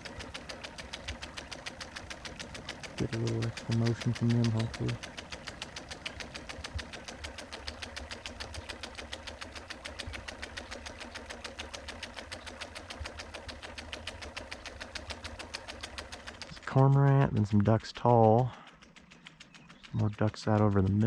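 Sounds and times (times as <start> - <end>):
rapid mechanical ticking: 0.0 - 21.0.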